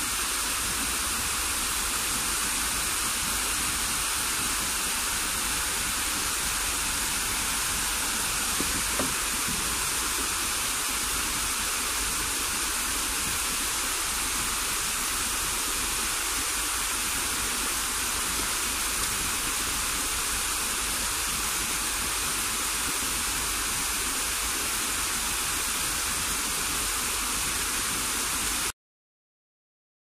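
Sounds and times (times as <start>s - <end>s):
waterfall rushing into pond: 0.0s - 28.7s.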